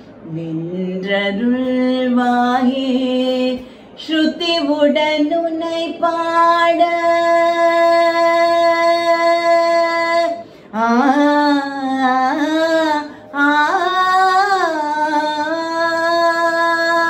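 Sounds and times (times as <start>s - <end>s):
woman singing devotional song: 0.2s - 17.0s.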